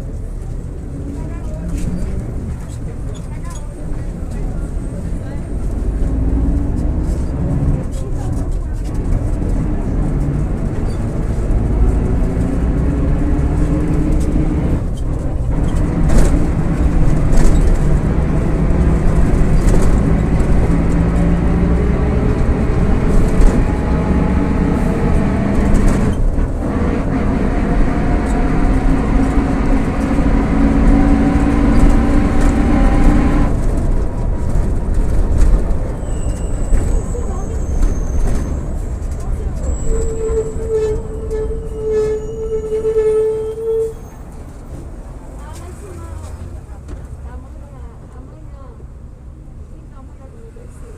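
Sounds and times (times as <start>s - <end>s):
city bus diesel engine running: 0.0s - 50.9s.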